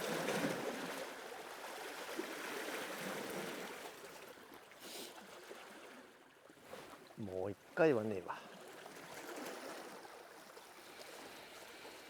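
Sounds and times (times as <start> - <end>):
sea water washing and lapping: 0.0 - 12.0.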